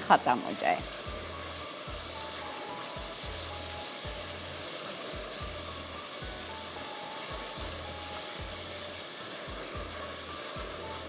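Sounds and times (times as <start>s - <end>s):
onions and garlic sizzling: 0.0s - 11.0s.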